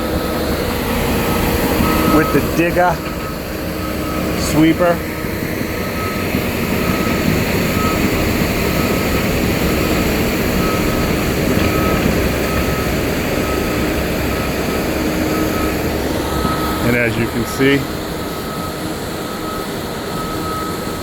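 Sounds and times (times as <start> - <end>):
sweeper engine rumbling: 0.0 - 21.0.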